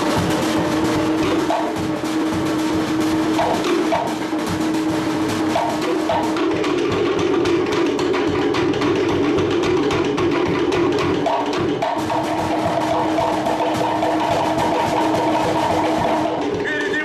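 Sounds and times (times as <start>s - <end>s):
wooden slit drums clacking: 0.0s - 17.0s.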